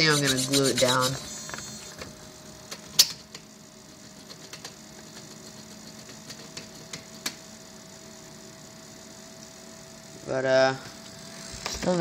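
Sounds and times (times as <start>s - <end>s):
servo humming: 0.0s - 3.0s, 4.2s - 12.0s.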